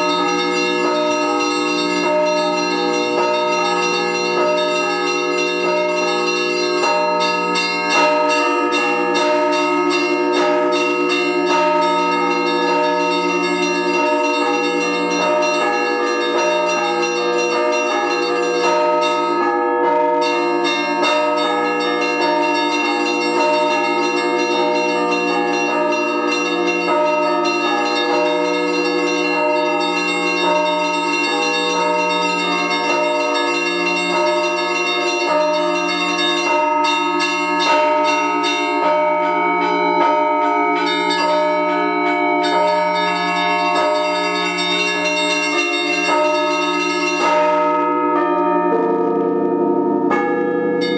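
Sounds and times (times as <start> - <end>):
church bells pealing: 0.0 - 50.9.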